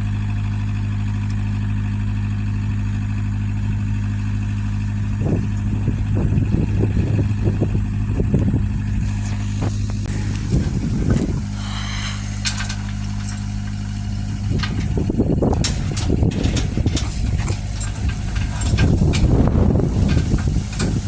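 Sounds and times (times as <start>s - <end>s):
engine idling: 0.0s - 21.0s
rough rumbling with knocks and clanks: 0.0s - 21.0s.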